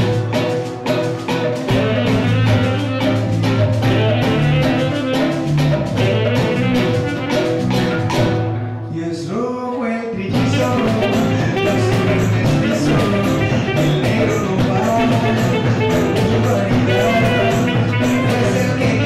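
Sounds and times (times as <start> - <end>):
low bass line: 0.0 - 0.6, 1.5 - 8.7, 10.3 - 19.0
cowbell and block percussion: 0.0 - 8.6, 10.3 - 19.0
saxophone playing: 0.0 - 8.6, 10.3 - 19.0
guitar: 0.0 - 19.0.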